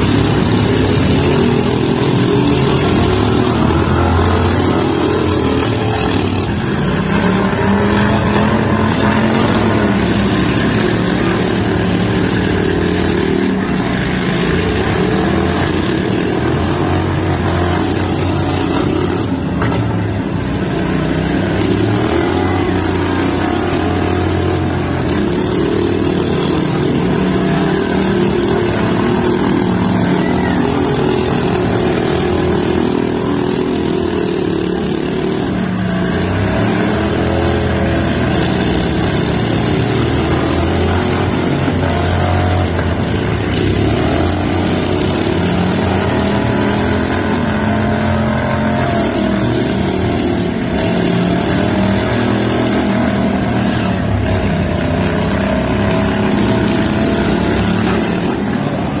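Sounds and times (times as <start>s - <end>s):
lawn tractor engines revving: 0.0s - 59.0s.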